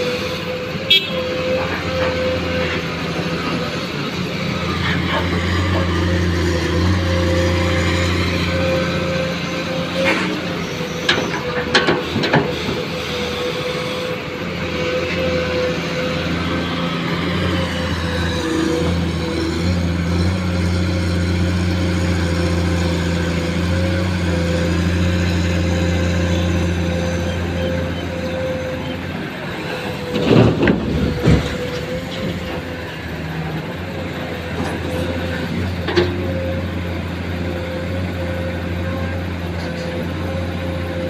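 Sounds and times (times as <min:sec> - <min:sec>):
heavy engine humming: 0:00.0 - 0:41.0.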